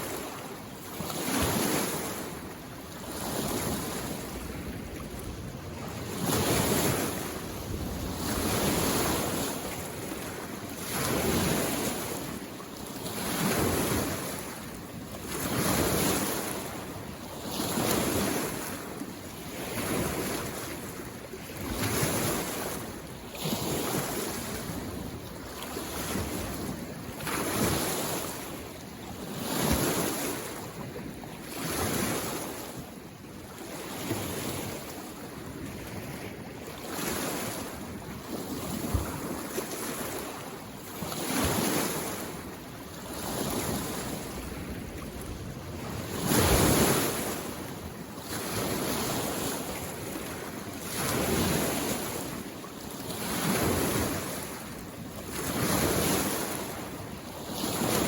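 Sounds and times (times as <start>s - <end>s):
small waves washing in: 0.0s - 58.0s.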